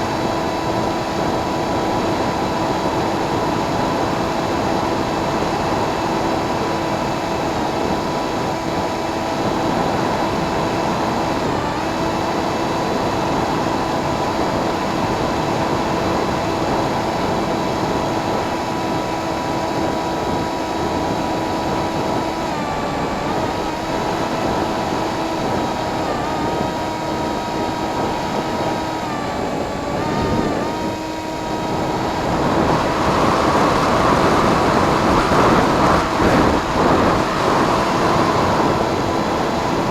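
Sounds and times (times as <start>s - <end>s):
heavy wind noise: 0.0s - 39.9s
model plane motor whine: 0.0s - 39.9s.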